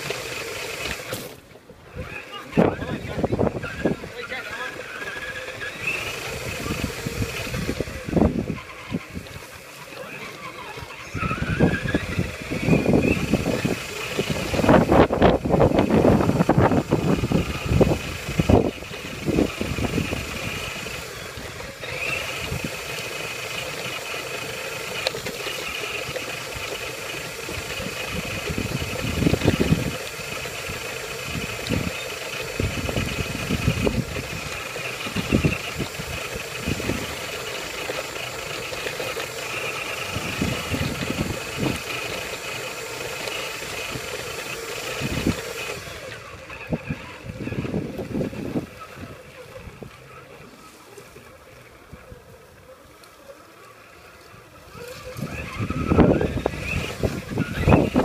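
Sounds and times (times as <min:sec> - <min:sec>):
electric motor whine: 0:00.0 - 0:58.0.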